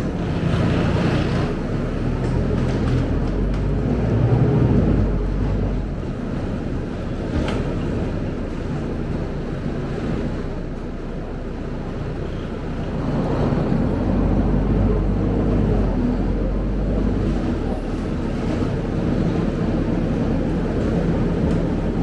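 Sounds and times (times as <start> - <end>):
bus engine rumble: 0.0 - 22.0
road noise: 0.0 - 22.0.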